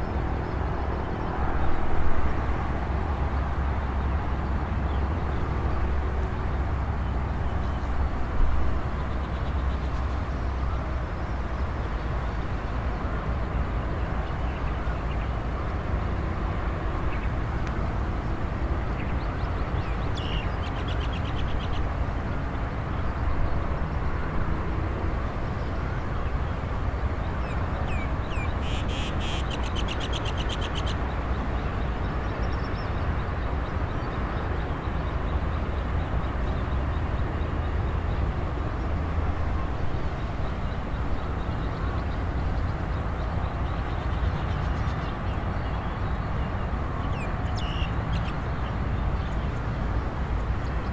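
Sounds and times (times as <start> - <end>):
distant traffic rumble: 0.0 - 50.9.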